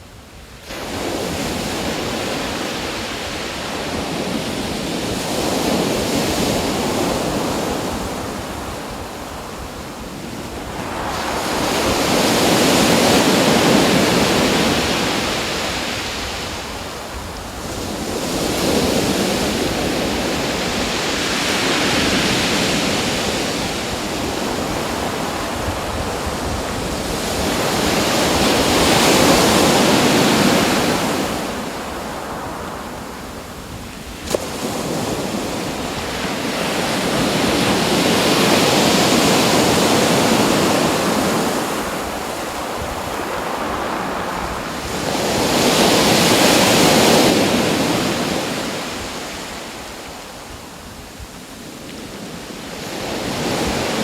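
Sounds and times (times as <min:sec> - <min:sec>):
ocean waves breaking: 0:00.6 - 0:50.0.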